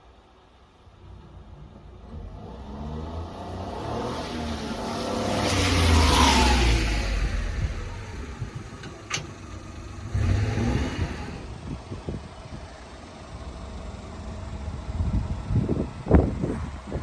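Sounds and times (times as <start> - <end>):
small truck engine running: 0.2 - 17.0.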